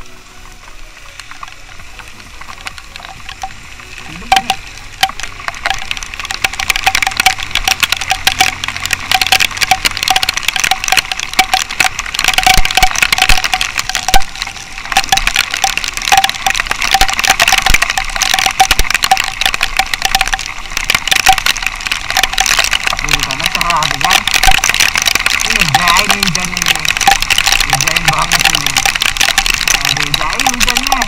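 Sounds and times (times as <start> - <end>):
raindrops hitting camera: 0.0 - 31.0.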